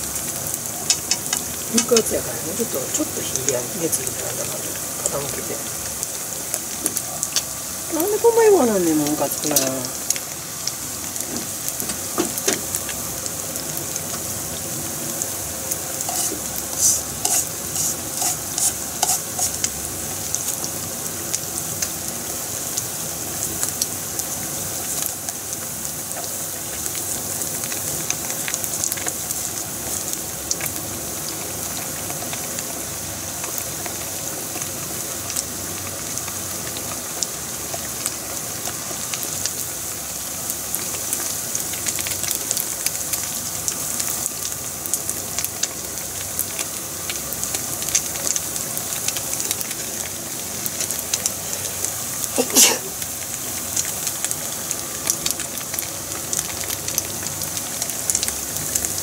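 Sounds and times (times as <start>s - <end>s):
oil sizzling in a frying pan: 0.0s - 59.0s.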